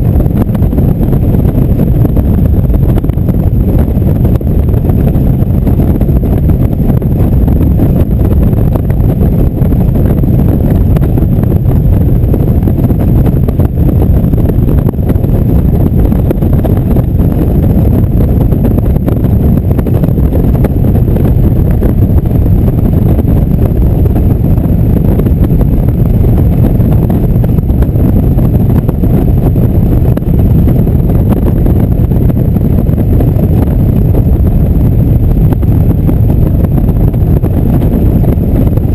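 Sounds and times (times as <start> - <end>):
motorcycle engine drone: 0.0 - 38.9
wind rush on microphone: 0.0 - 38.9.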